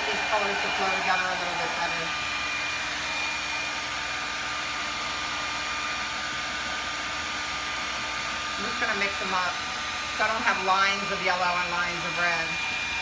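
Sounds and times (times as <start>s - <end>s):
blow dryer running: 0.0s - 13.0s.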